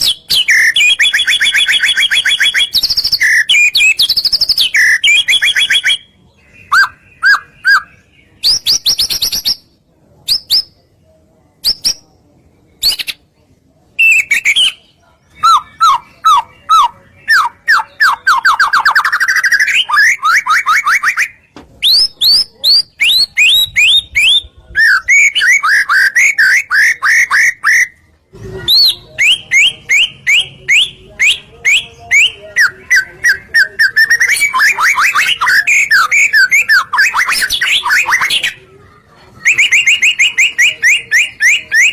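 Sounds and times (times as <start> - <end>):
shama bird singing: 0.0 - 10.8, 13.9 - 28.1, 28.7 - 38.6, 39.3 - 41.9.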